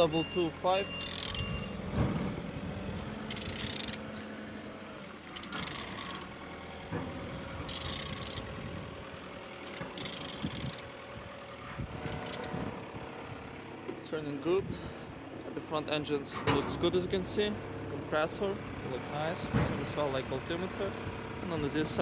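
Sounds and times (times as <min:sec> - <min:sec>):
engine turned over by hand: 0:00.0 - 0:22.0.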